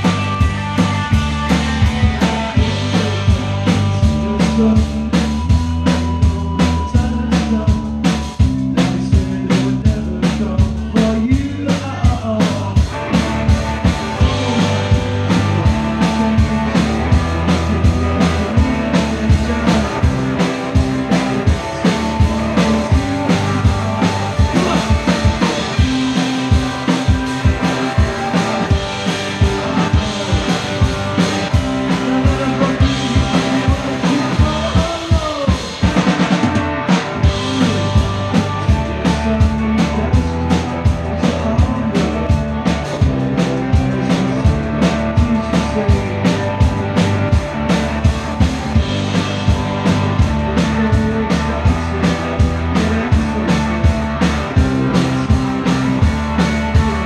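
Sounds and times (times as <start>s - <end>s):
driving drum beat: 0.0s - 57.0s
live rock band playing: 0.0s - 57.0s.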